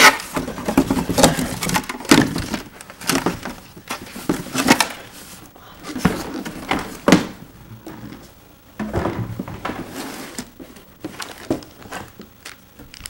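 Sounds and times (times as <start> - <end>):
cardboard scraping and rustling: 0.0 - 12.3.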